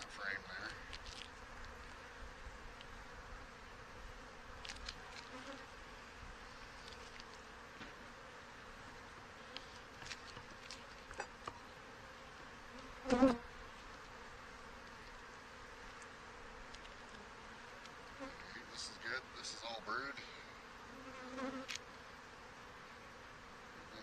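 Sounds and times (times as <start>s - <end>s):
bees humming: 0.0s - 24.0s
bee buzzing close by: 0.2s - 19.8s, 20.5s - 24.0s.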